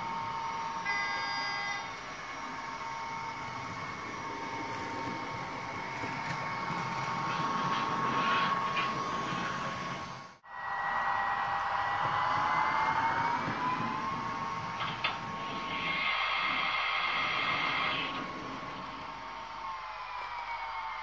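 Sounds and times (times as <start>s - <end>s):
model train motor hum and whine: 0.0s - 21.0s
wheels on model rails: 0.0s - 21.0s.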